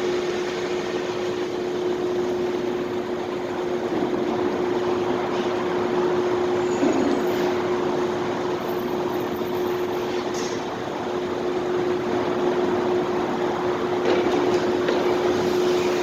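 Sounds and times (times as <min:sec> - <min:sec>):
constant hum: 0:00.0 - 0:16.0
parking lot rushing noise: 0:00.0 - 0:16.0.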